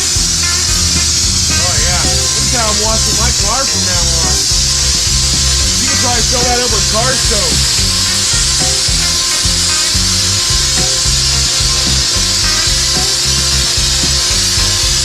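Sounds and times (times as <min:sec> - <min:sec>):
background music with bass line: 0:00.0 - 0:15.0
pressure washer spraying metal: 0:00.0 - 0:15.0.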